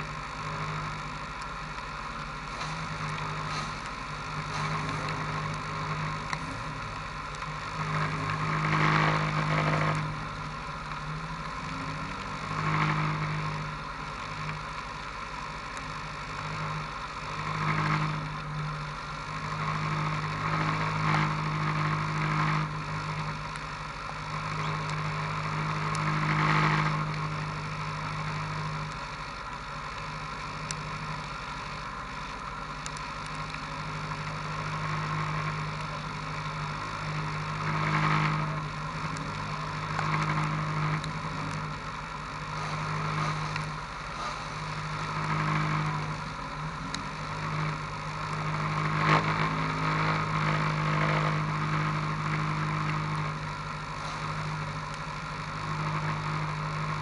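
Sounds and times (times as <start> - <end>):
car engines idling: 0.0 - 57.0
engine throttle blips: 0.0 - 57.0.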